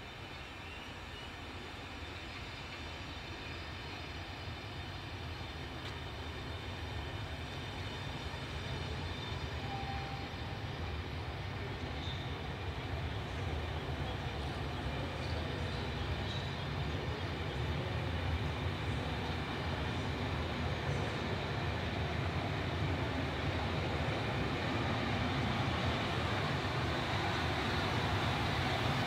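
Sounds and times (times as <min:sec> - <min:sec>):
train running: 0:00.0 - 0:29.0.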